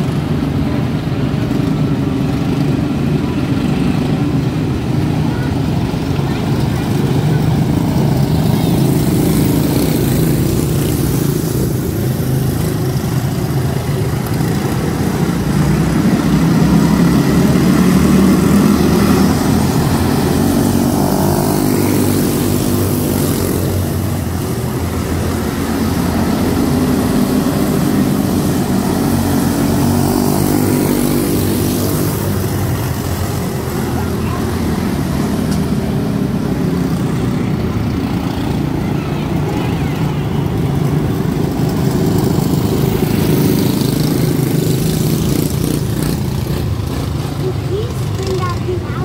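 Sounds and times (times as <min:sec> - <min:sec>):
race car engines running: 0:00.0 - 0:49.0.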